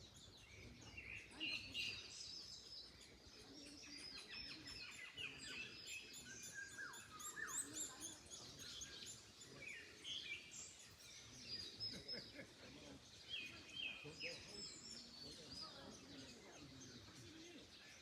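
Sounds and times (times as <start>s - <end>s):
small birds chirping and singing: 0.0s - 18.0s.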